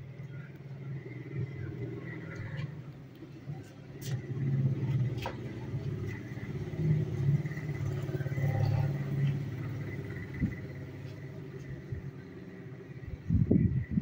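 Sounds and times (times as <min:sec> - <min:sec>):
propeller plane droning: 0:00.0 - 0:14.0.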